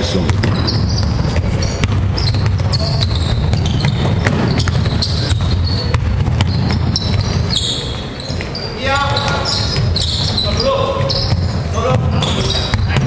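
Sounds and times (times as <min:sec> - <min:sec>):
basketball bouncing: 0:00.0 - 0:13.0
low hum of hall: 0:00.0 - 0:13.0
shoes squeaking: 0:00.0 - 0:13.0.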